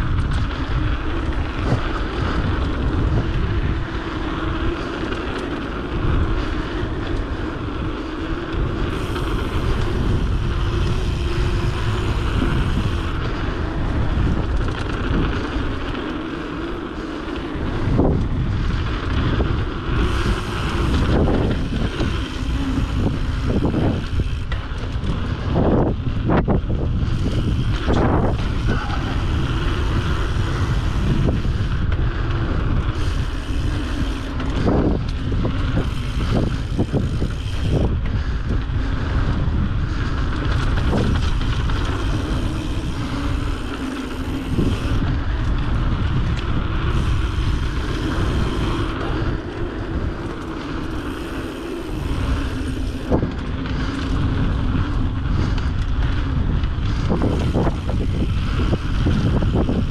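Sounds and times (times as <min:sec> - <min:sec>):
steady rumble: 0:00.0 - 0:59.9
wind buffeting microphone: 0:00.0 - 0:59.9.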